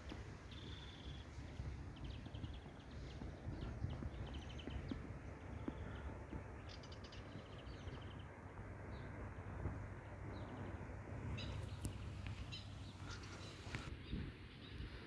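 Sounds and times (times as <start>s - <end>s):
steady low rumble: 0.0s - 14.4s
small birds chirping: 0.0s - 14.9s.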